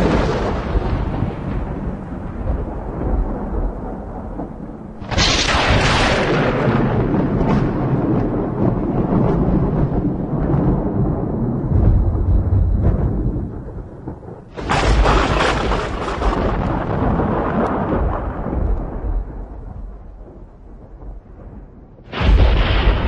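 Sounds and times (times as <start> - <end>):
sharp thunderclap: 0.0 - 23.0
thunder rumble: 0.0 - 23.0.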